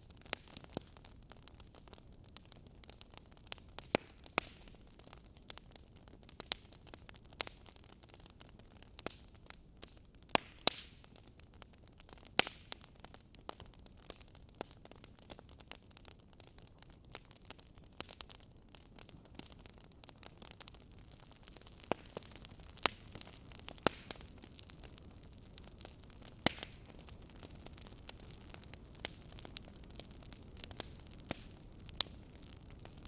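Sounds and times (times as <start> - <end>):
faint steady hiss: 0.0 - 33.0
wood fire crackling and popping: 0.0 - 33.0.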